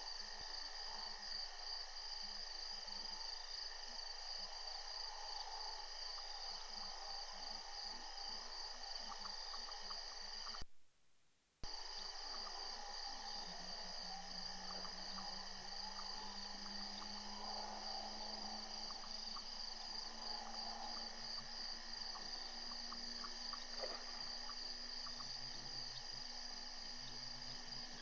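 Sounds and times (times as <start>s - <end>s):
night insects chirring: 0.0s - 10.6s, 11.6s - 28.0s
low steady hum: 0.0s - 28.0s.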